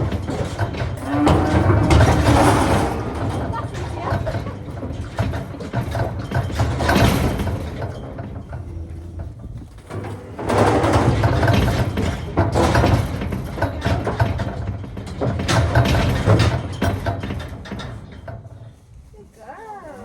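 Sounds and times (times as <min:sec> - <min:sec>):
metallic rattling and clanking: 0:00.0 - 0:19.1.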